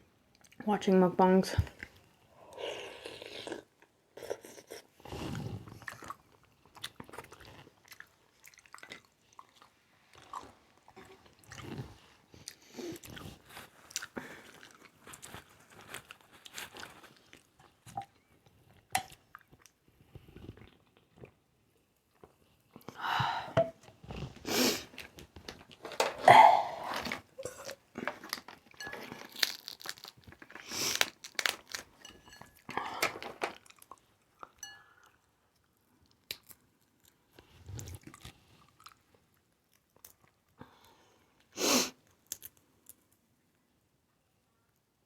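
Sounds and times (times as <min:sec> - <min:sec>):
chewing and crunching: 0:01.7 - 0:23.0, 0:23.9 - 0:32.7, 0:33.3 - 0:40.6.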